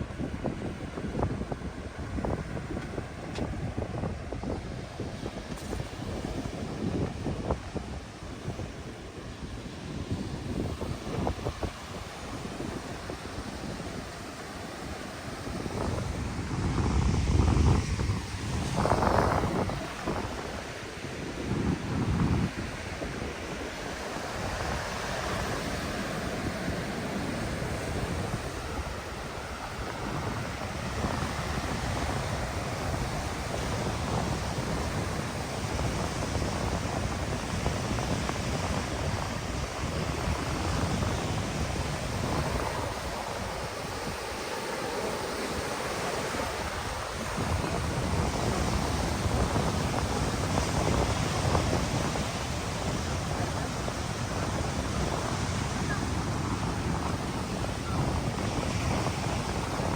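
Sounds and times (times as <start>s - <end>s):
ocean surf on sand: 0.0s - 59.9s
wind buffeting microphone: 0.0s - 59.9s.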